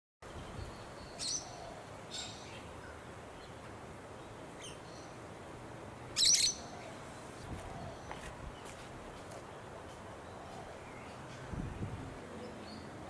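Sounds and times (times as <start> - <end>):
faint outdoor hiss: 0.2 - 13.0.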